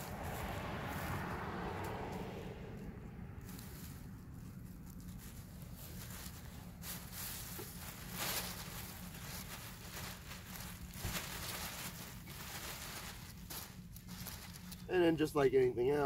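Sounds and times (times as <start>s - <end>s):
kite sail rustling: 0.0s - 14.9s
steady low rumble: 0.0s - 15.9s
dry leaves rustling: 0.0s - 16.0s.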